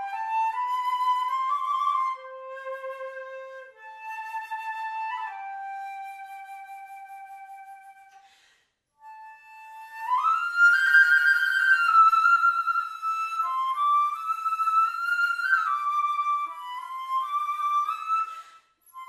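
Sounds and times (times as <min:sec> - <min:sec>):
solo flute: 0:00.0 - 0:08.4, 0:09.0 - 0:19.0.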